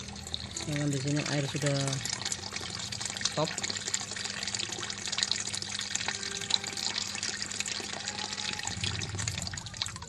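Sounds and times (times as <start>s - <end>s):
water filling washing machine: 0.0s - 10.0s.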